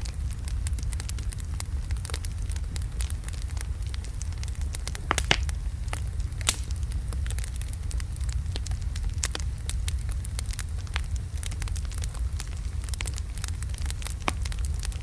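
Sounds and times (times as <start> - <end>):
burning wood crackling and popping: 0.0 - 15.0
low fire rumble: 0.0 - 15.0.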